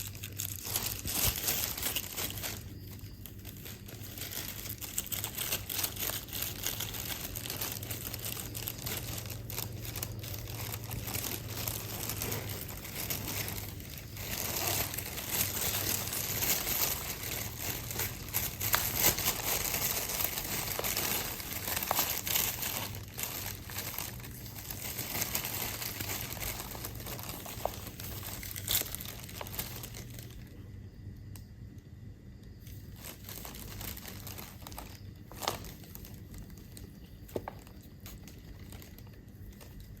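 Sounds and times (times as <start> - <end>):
plastic bag crinkling: 0.0 - 30.7, 32.6 - 40.0.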